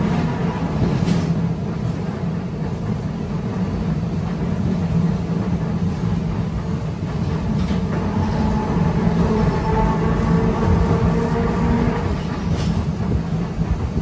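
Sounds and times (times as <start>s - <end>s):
streetcar rumble from inside: 0.0s - 14.0s.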